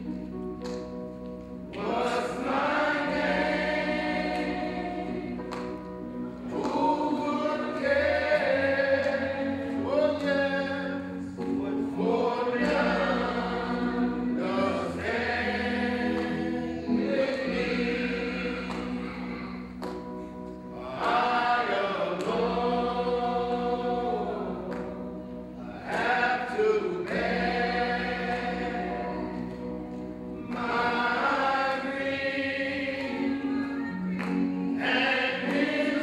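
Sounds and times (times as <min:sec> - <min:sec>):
instrumental chords: 0:00.0 - 0:36.0
group singing a hymn: 0:01.7 - 0:36.0.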